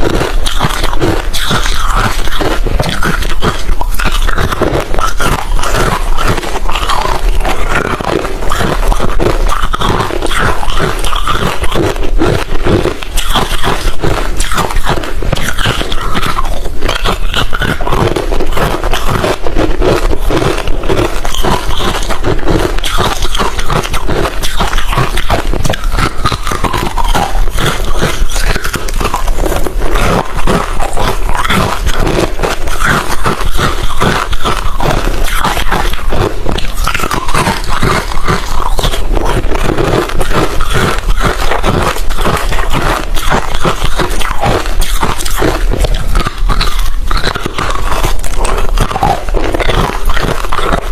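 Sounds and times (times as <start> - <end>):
chewing crunchy ice: 0.0 - 50.9.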